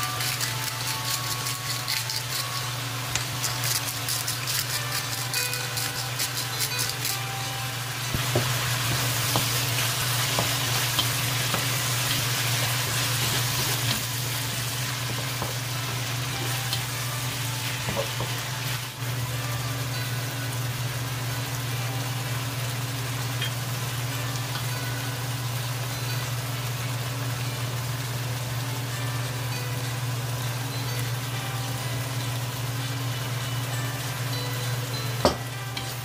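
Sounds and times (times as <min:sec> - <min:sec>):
chicken sizzling in a wok: 0:00.0 - 0:36.0.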